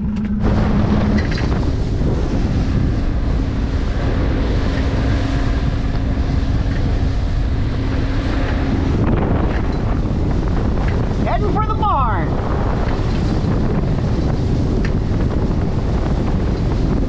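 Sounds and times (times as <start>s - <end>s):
outboard motor running: 0.0s - 17.0s
rushing water: 0.0s - 17.0s
wind on microphone: 0.0s - 17.0s.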